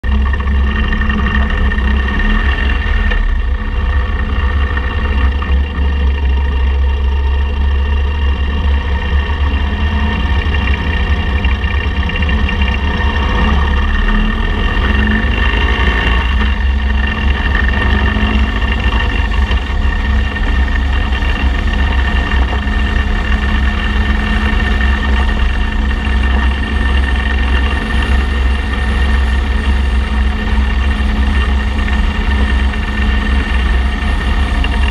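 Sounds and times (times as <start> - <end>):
motorcycle engine running: 0.0 - 34.9
wind rumble on microphone: 0.0 - 34.9.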